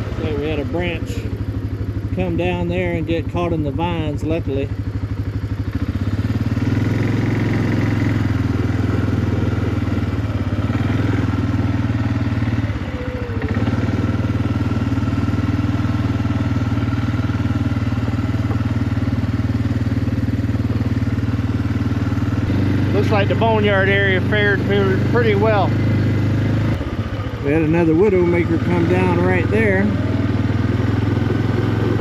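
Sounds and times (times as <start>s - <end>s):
small vehicle engine running: 0.0s - 32.0s.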